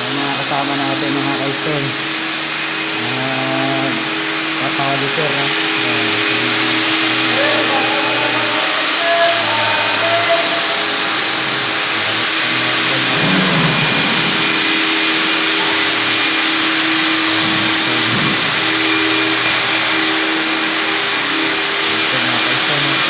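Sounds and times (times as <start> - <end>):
floor polishing machines whirring: 0.0 - 23.0.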